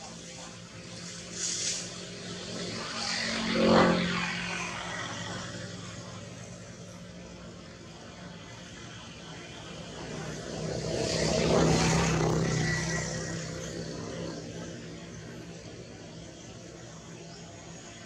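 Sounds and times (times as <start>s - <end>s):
engine passing by: 0.0s - 18.0s.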